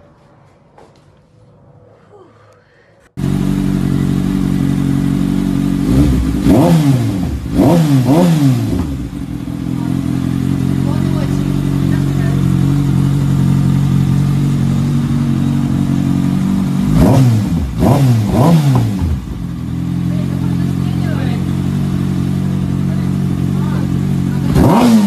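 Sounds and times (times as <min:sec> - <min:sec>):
motorcycle engine idling and revving: 0:03.2 - 0:25.0.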